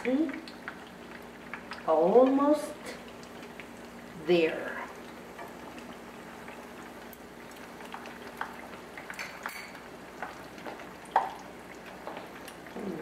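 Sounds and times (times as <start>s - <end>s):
frying in hot oil: 0.0s - 13.0s.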